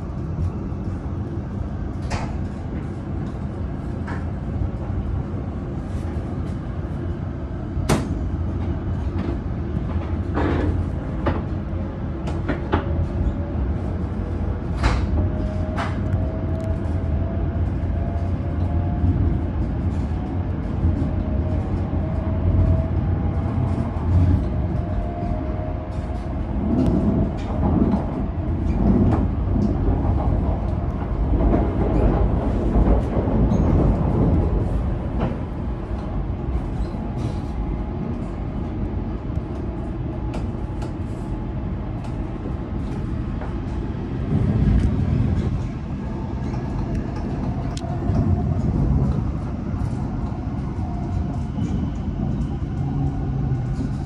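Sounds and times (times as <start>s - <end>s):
train running gear rumble: 0.0s - 54.0s.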